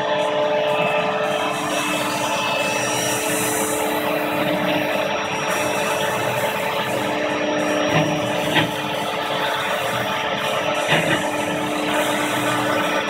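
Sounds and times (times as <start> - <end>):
vacuum cleaner running: 0.0 - 13.0
router spindle milling: 1.5 - 13.0.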